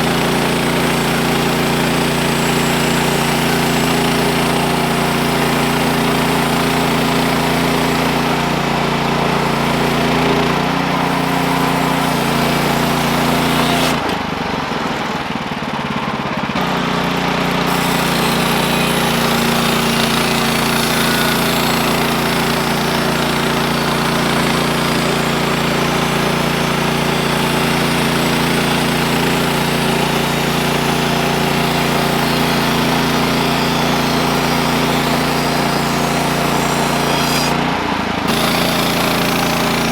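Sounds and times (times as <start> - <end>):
sawmill gasoline engine running: 0.0 - 39.9.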